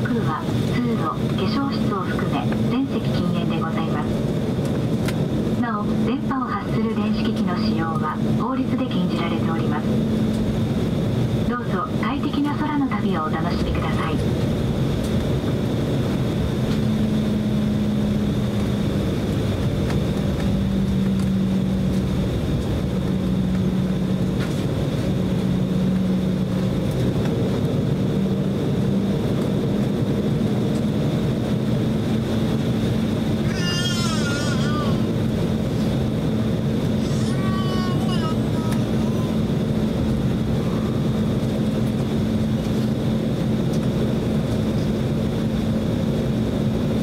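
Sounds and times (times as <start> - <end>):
airliner cabin engine hum: 0.0 - 47.0.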